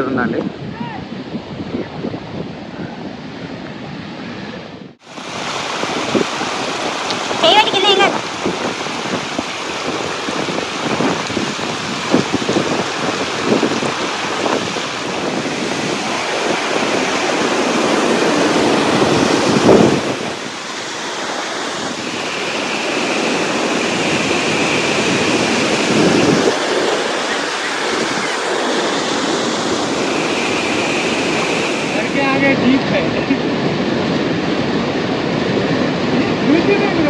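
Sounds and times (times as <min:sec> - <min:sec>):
wind buffeting microphone: 0:00.0 - 0:37.0
waterfall rushing: 0:05.0 - 0:37.0.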